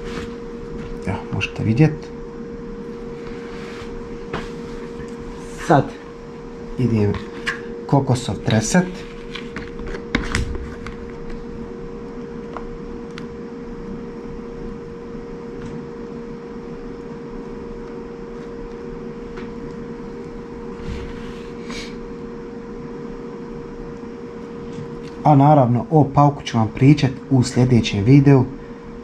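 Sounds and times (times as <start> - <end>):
appliance hum: 0.0 - 29.0.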